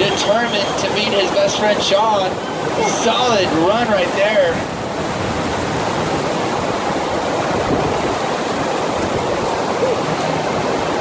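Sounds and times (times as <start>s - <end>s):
water rushing over wave machine: 0.0s - 11.0s.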